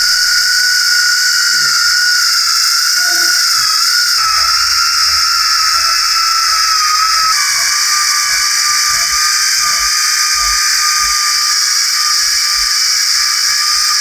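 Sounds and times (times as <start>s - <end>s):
power tool whining: 0.0s - 14.0s.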